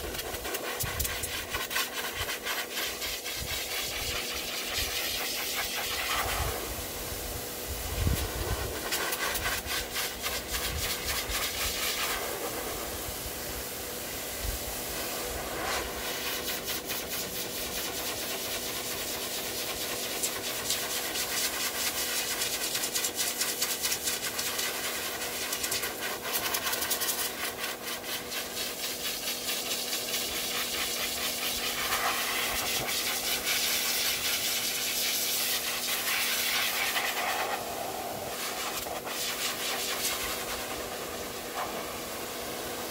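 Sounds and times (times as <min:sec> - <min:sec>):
dryer air rushing hiss: 0:00.0 - 0:42.9.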